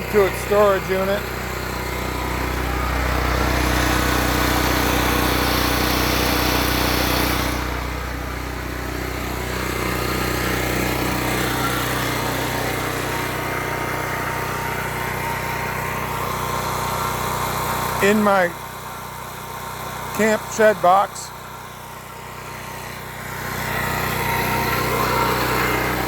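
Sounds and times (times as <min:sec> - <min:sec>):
generator engine running: 0:00.0 - 0:26.0.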